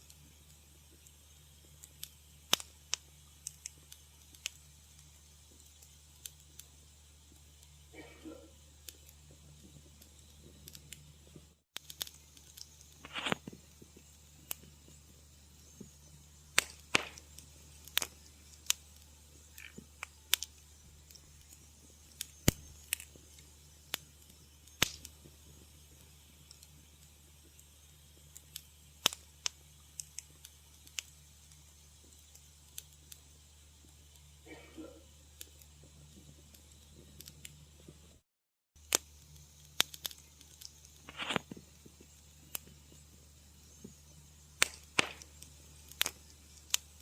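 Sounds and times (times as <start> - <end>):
faint low hiss: 0.0 - 38.2, 38.8 - 47.0
wood fire crackling: 0.0 - 38.2, 38.8 - 47.0.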